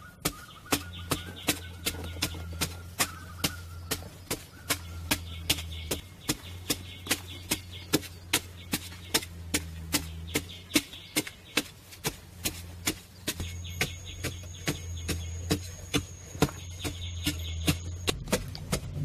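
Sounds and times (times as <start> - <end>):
digging tool chopping earth: 0.0 - 19.0.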